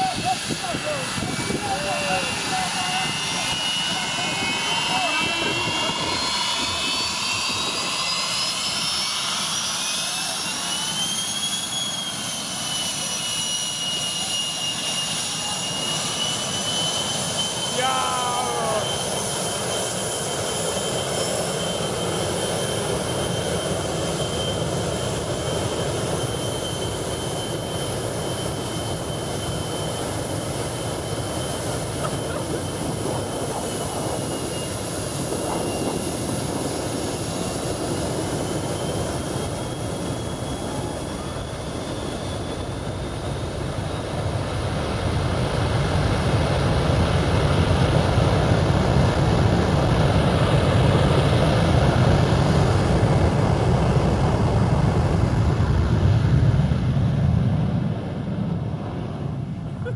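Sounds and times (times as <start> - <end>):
jet engines roaring with high whine: 0.0 - 59.9.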